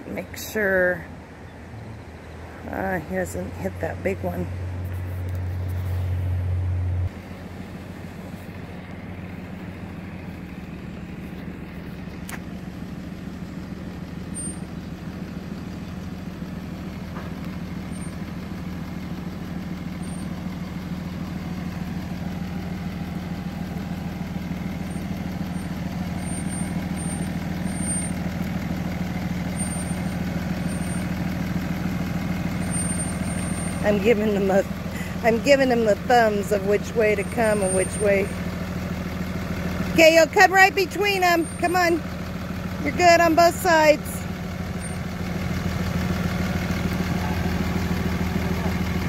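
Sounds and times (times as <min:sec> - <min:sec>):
diesel truck engine running: 0:00.0 - 0:49.0
loud low hum: 0:03.4 - 0:38.5, 0:42.8 - 0:49.0.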